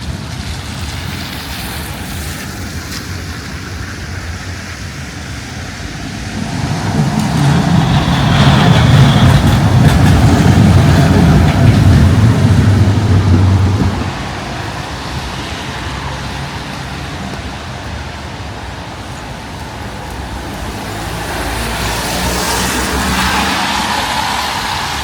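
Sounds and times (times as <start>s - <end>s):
steady traffic noise: 0.0s - 25.0s
vehicle engine passing: 5.0s - 25.0s.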